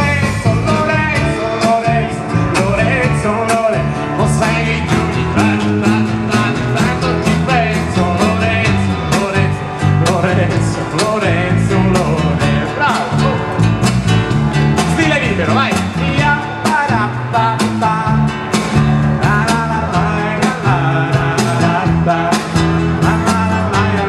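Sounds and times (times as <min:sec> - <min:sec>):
person singing: 0:00.0 - 0:13.6, 0:14.8 - 0:24.0
acoustic and electric guitars: 0:00.0 - 0:24.0
drum kit beat: 0:00.0 - 0:24.0.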